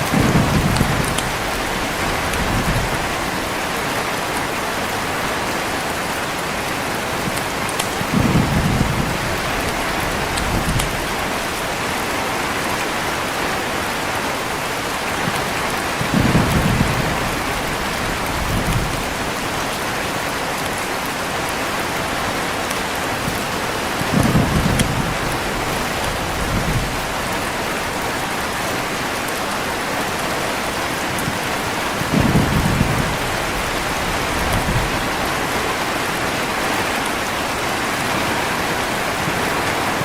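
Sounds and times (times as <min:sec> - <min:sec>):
thunder rumbling: 0:00.0 - 0:05.6, 0:06.8 - 0:14.2, 0:14.8 - 0:20.3, 0:23.2 - 0:29.8, 0:30.7 - 0:40.0
heavy rain: 0:00.0 - 0:40.0.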